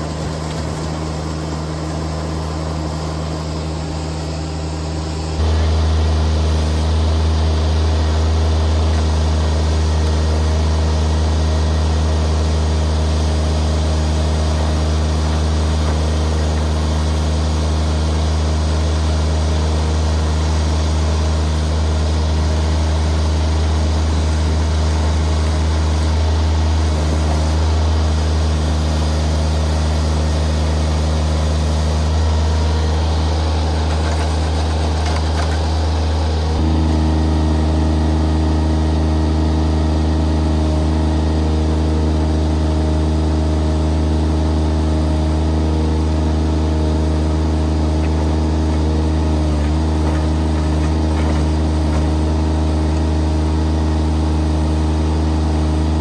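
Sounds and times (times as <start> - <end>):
engine running with low hum: 0.0 - 56.0
hydraulic auger boring into ground: 0.0 - 56.0.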